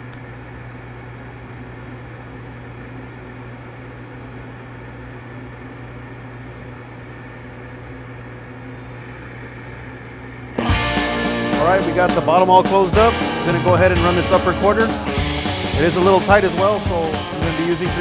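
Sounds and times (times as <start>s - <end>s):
welding arc humming and hissing: 0.0s - 13.6s, 15.0s - 18.0s.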